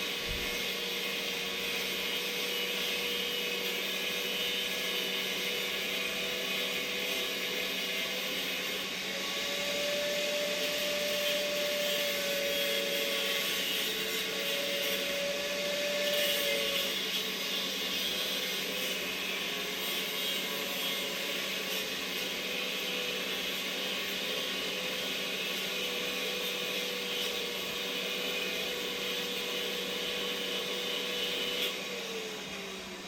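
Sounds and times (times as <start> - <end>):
electric grinder grinding steel: 0.0 - 33.0.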